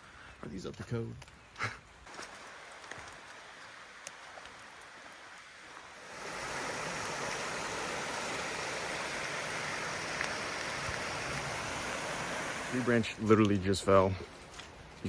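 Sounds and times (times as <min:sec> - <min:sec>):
running water rushing: 0:02.1 - 0:14.2.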